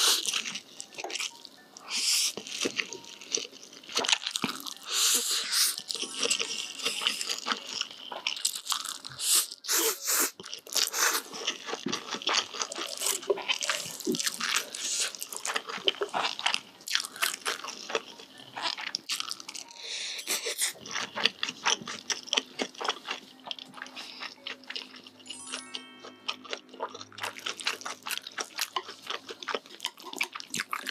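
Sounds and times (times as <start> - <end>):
chewing noodles crunching: 0.0 - 25.3, 26.1 - 30.9.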